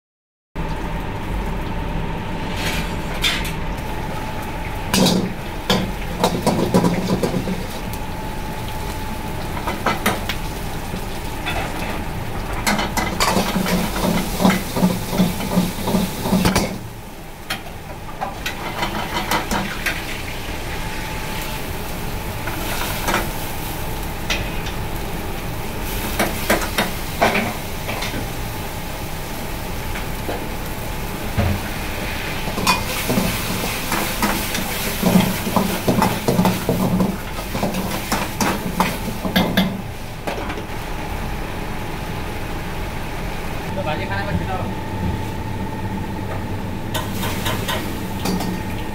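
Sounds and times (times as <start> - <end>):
food sizzling in hot oil: 3.8 - 41.1, 46.9 - 48.9.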